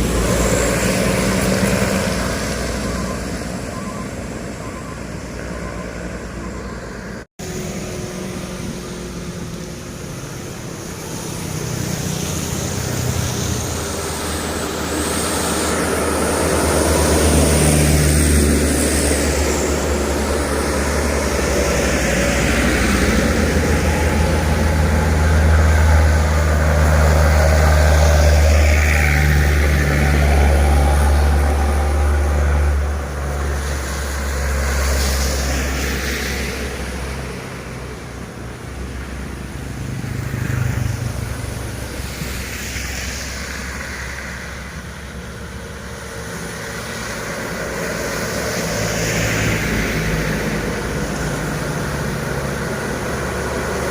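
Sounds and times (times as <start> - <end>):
diesel truck engine straining: 0.0 - 53.9
tyre hiss on wet road: 7.4 - 53.9.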